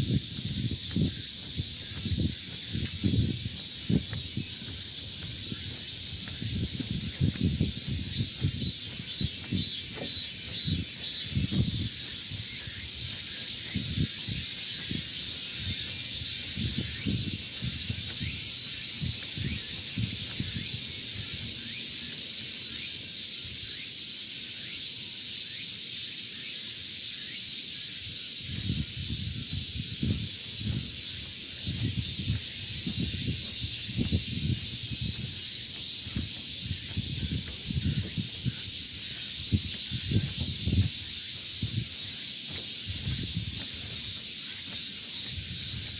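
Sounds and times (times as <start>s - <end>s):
wind buffeting microphone: 0.0s - 21.7s, 28.4s - 45.9s
cicadas droning: 0.0s - 45.9s.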